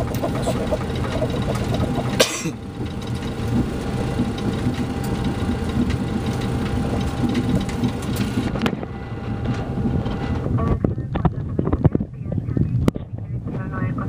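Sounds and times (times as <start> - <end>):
jet engines humming: 0.0 - 14.0.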